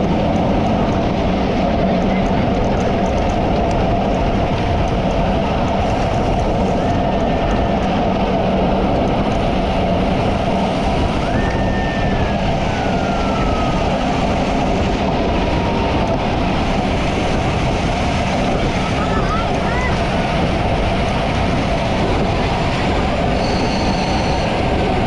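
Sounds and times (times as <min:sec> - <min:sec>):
wind rushing: 0:00.0 - 0:25.0.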